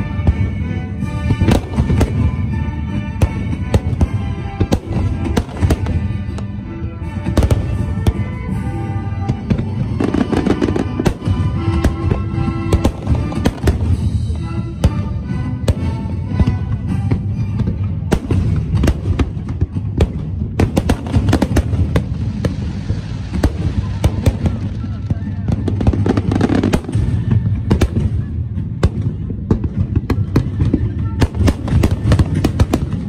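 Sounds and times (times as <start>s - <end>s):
fireworks bursting: 0.0s - 33.0s
music playing: 0.0s - 33.0s.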